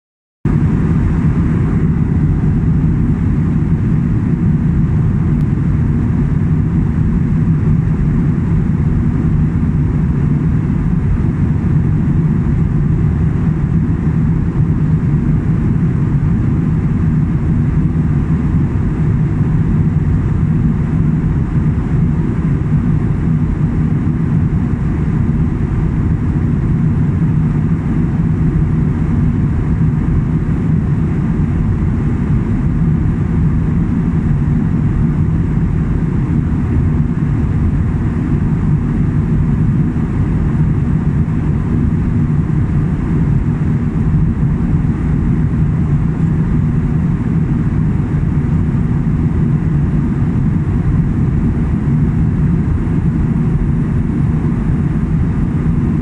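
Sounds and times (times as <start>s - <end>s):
airliner cabin rumble: 0.5s - 56.0s.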